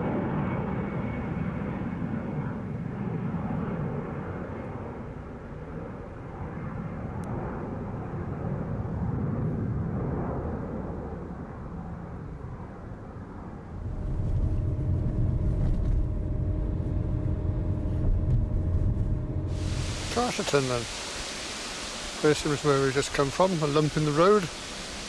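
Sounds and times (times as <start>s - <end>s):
aircraft engines droning: 0.0s - 25.0s.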